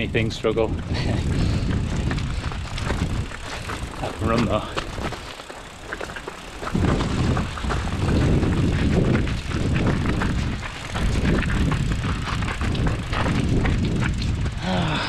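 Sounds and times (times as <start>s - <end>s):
low rumble on microphone: 0.0s - 5.3s, 6.6s - 15.0s
bike rattling and clicking: 0.0s - 15.0s
tyres crunching on stones: 0.8s - 14.6s.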